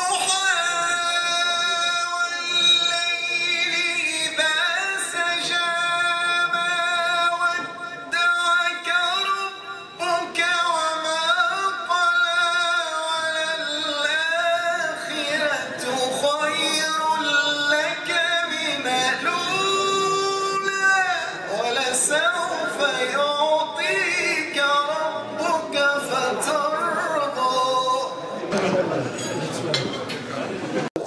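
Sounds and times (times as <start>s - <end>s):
man singing into microphone: 0.0s - 28.4s.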